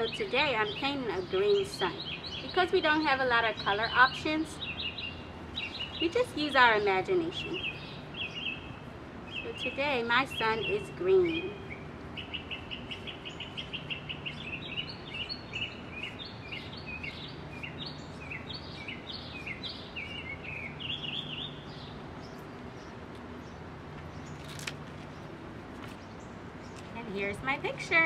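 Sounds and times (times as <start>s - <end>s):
bird singing: 0.0s - 28.0s.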